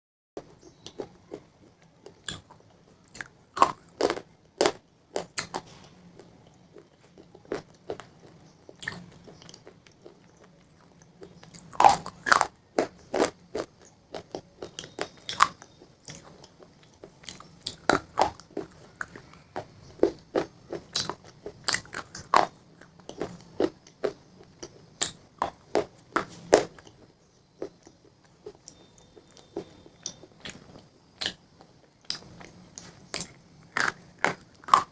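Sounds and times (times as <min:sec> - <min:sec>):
person chewing crunchy pizza: 0:00.6 - 0:34.9.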